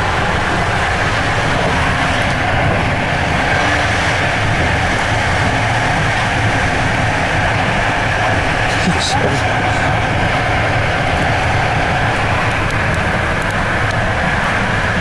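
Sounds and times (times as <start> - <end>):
passenger train running noise: 0.0 - 15.0.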